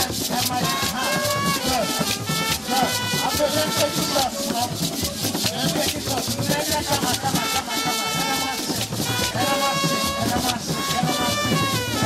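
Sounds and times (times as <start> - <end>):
background music with fast beat: 0.0 - 12.0.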